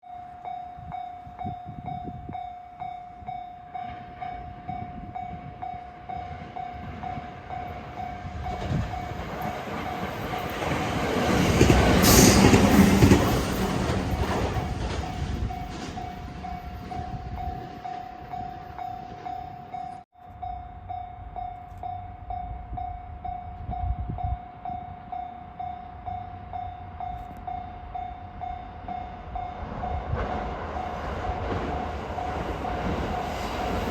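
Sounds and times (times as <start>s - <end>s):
train passing: 0.4s - 33.9s.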